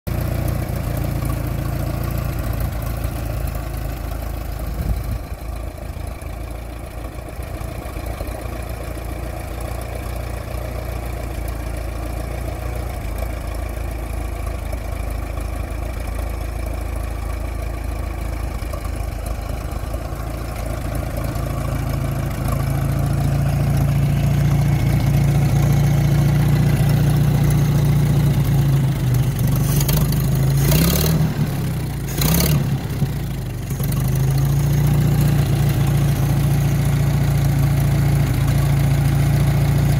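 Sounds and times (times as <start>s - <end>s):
tractor engine idling and revving: 0.1s - 39.9s.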